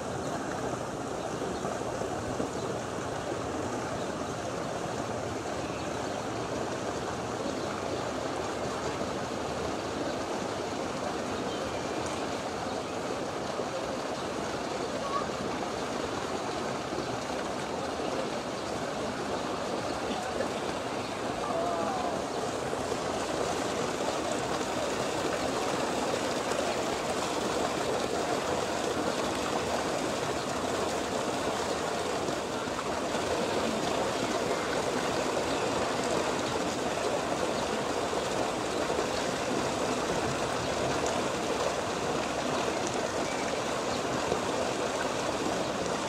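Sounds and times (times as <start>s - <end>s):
water rushing: 0.0s - 46.0s.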